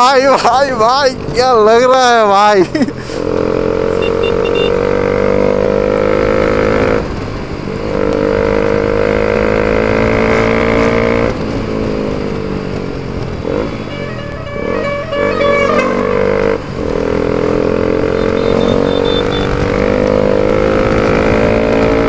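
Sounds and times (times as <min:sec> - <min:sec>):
motorcycle engine accelerating: 0:03.1 - 0:22.0.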